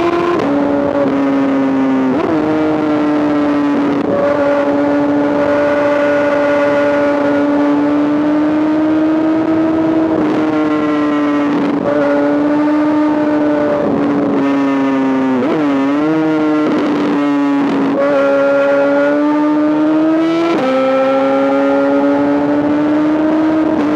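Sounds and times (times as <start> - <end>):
motorcycle engine revving high: 0.0 - 23.9.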